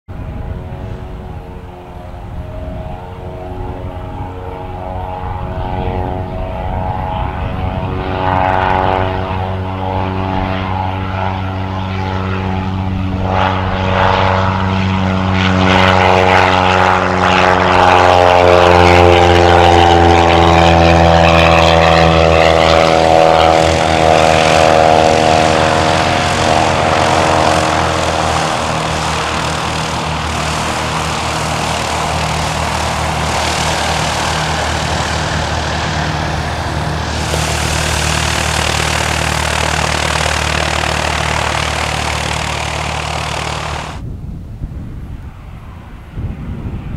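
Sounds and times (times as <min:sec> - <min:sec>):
propeller plane engine drone: 0:00.1 - 0:46.9.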